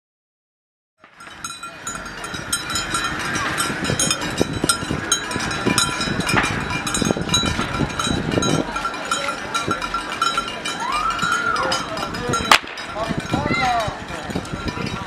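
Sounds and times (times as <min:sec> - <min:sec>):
cowbells clanging: 0:01.0 - 0:15.0.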